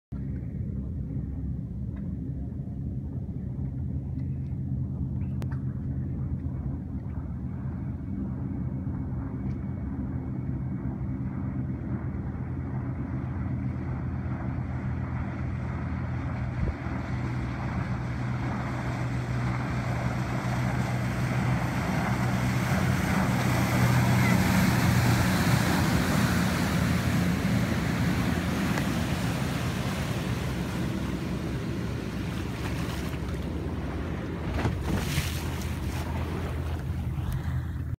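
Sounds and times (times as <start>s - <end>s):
boat engines humming: 0.1s - 37.9s
motor cruiser running at speed: 0.1s - 37.9s
rush of hull and wake: 0.2s - 37.9s.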